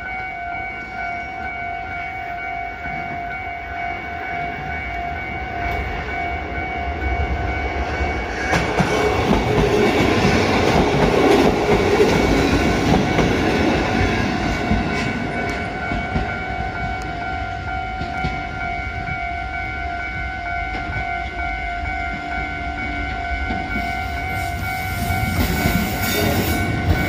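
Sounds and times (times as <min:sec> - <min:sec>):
electric train passing: 0:00.0 - 0:27.0
level crossing alarm ringing: 0:00.0 - 0:27.0.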